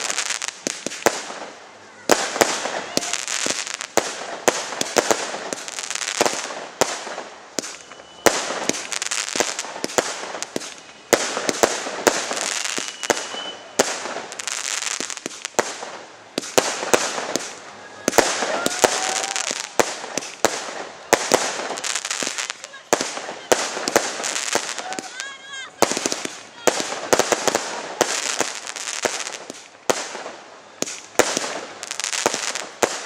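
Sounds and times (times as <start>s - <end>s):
crackling of burning fireworks: 0.0s - 33.0s.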